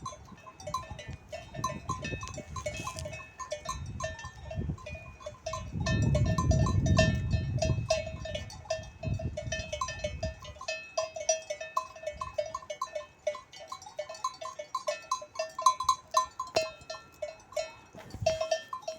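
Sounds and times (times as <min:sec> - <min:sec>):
sheep bells clanking: 0:00.0 - 0:18.9.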